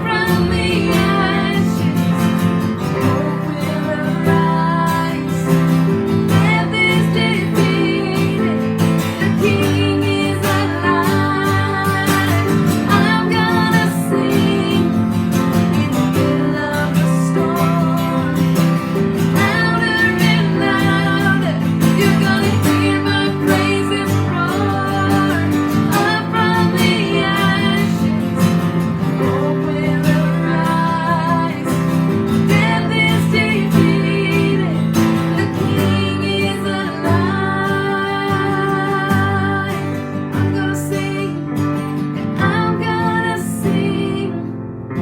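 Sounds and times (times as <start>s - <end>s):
person singing with vibrato: 0.0s - 41.6s, 42.3s - 44.5s
strummed acoustic guitar: 0.0s - 45.0s.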